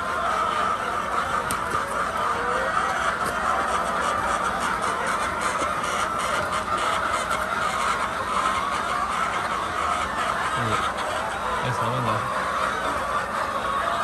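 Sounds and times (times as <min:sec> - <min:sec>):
flock of hens clucking: 0:00.0 - 0:14.0.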